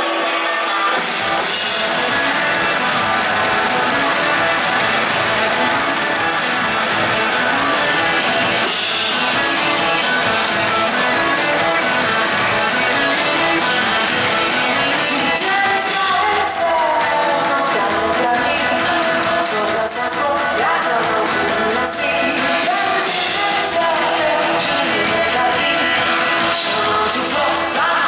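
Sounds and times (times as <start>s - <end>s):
gliding guitar notes: 0.0s - 28.0s
rock band playing live: 0.0s - 28.0s.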